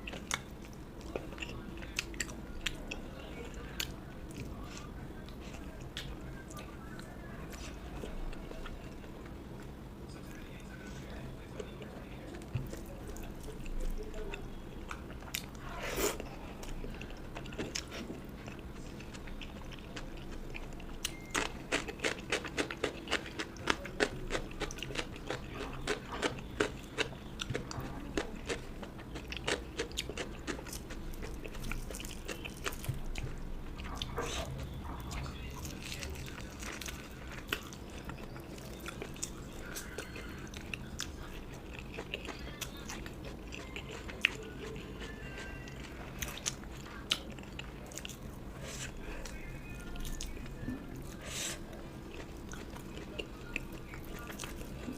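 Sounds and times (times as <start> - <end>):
chewing and crunching: 0.0 - 54.9.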